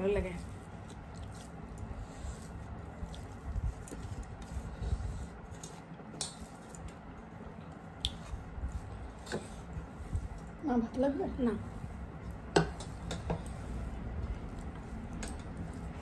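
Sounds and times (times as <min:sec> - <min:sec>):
hands squishing rice: 0:00.0 - 0:16.0.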